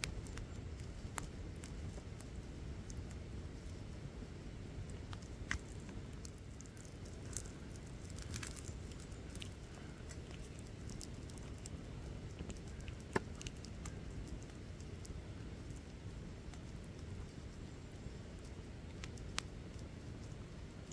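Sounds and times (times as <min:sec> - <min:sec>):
crackles and pops of burning wood: 0:00.0 - 0:20.9
wood fire rumbling: 0:00.0 - 0:20.9.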